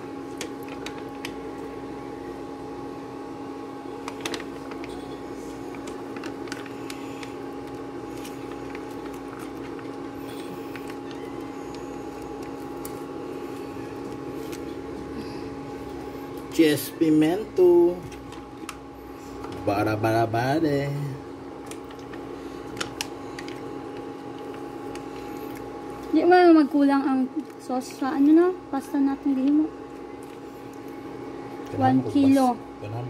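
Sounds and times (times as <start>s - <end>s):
induction cooktop humming: 0.0s - 33.0s.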